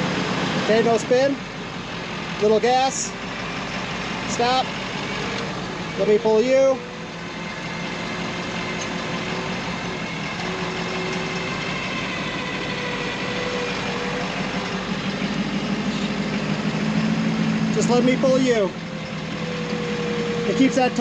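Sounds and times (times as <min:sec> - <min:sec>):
faint steady winch whine: 0:00.0 - 0:21.0
truck engine running: 0:00.0 - 0:21.0.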